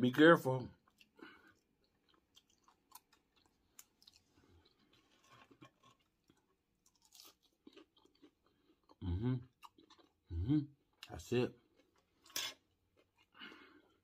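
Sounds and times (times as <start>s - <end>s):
chewing food with mouth closed: 0.8s - 14.0s.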